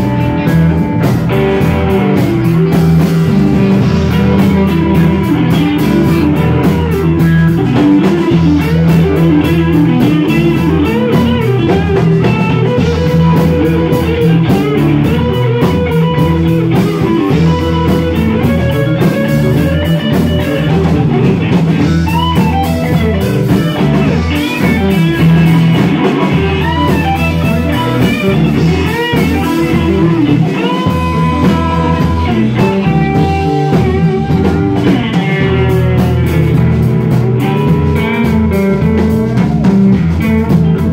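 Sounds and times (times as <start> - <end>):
bass guitar: 0.0 - 40.9
drum kit: 0.0 - 40.9
electric guitar lead with bent notes: 0.0 - 40.9.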